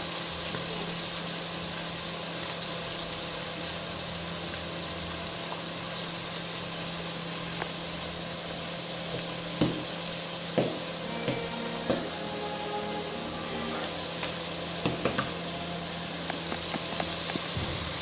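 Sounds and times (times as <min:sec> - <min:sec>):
cooling fan hum and whir: 0:00.0 - 0:18.0.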